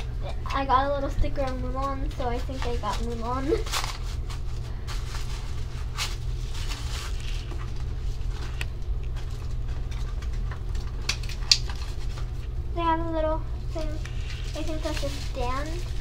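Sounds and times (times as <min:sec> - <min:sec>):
paper and foil packet crinkling: 0:00.4 - 0:12.6, 0:13.2 - 0:16.0.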